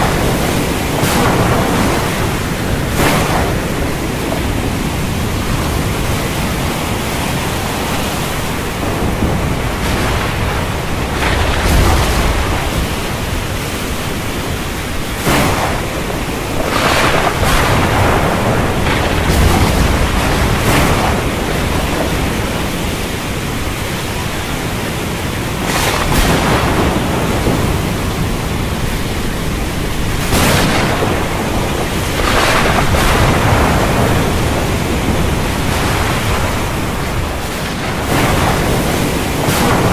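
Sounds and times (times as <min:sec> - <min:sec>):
deep thunder rumbles: 0:00.0 - 0:39.9
rain: 0:00.0 - 0:39.9
rough sea: 0:00.0 - 0:39.9
wind: 0:00.0 - 0:39.9.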